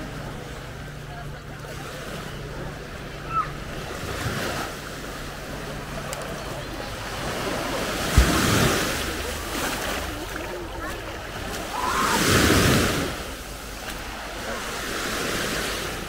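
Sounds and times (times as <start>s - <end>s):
small waves washing onto sand: 0.0s - 16.0s.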